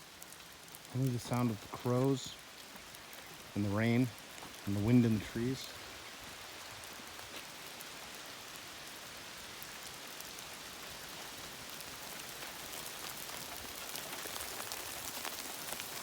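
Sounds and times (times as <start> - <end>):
close raindrops ticking: 0.0 - 16.0
steady rain: 0.0 - 16.0.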